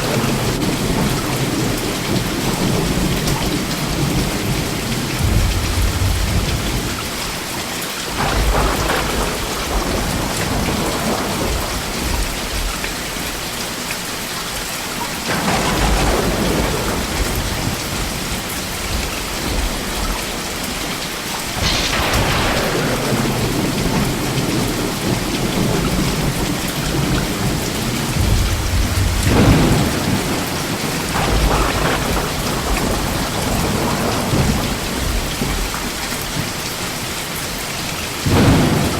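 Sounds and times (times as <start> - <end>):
thunder rumbling: 0.0 - 13.4, 15.2 - 37.1, 38.1 - 38.9
steady rain falling: 0.0 - 38.9.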